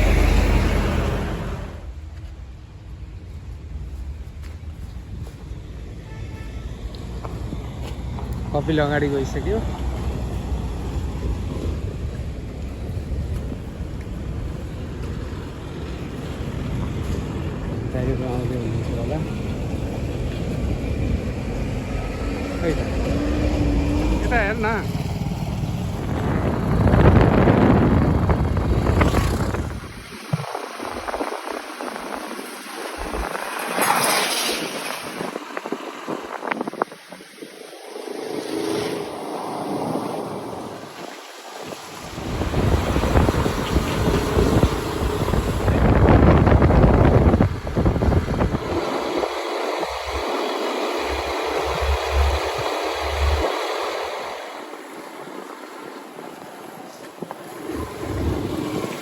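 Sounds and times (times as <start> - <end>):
moving road vehicle: 0.0 - 59.0
wind buffeting microphone: 6.7 - 59.0.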